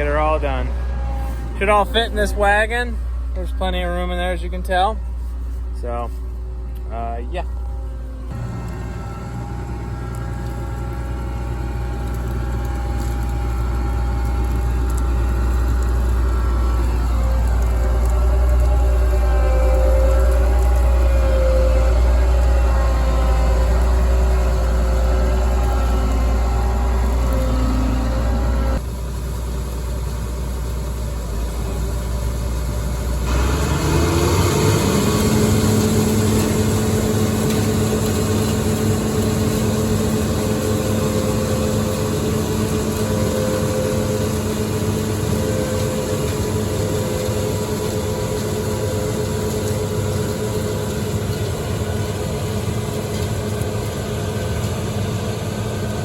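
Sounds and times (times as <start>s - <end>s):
heavy farm machinery engine: 0.0s - 56.0s.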